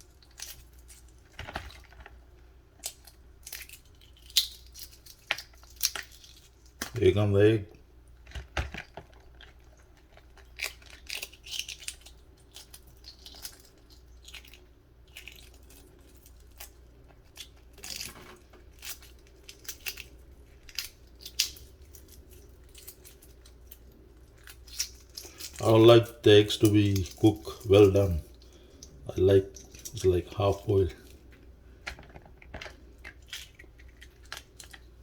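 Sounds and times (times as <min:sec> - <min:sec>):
eggshell cracking and peeling: 0:00.0 - 0:07.1, 0:08.0 - 0:35.0.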